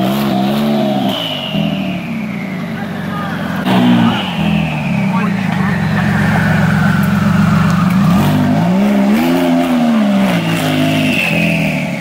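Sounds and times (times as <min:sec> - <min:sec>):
sports car engine rumbling past: 0:00.0 - 0:12.0.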